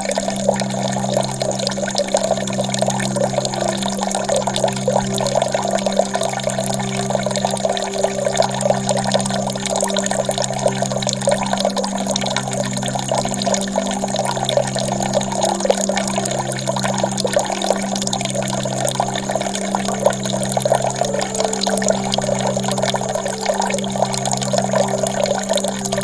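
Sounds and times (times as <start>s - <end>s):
low drone: 0.0s - 26.0s.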